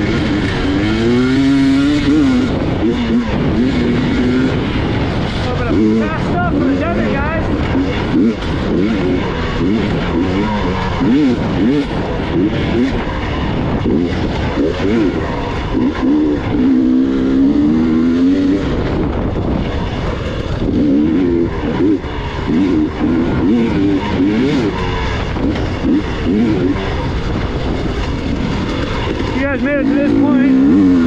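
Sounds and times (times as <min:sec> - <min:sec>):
constant rush of noise: 0:00.0 - 0:31.0
motorcycle engine revving: 0:00.0 - 0:31.0.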